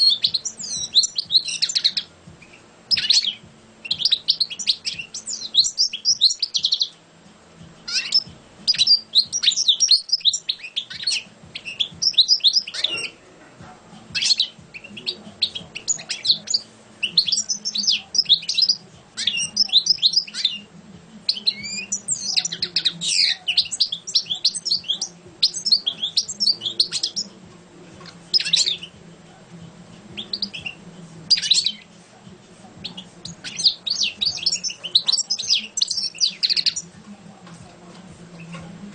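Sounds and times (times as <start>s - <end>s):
goldfinch singing: 0.0s - 7.0s, 7.6s - 13.3s, 14.0s - 29.1s, 30.0s - 31.9s, 32.7s - 38.9s.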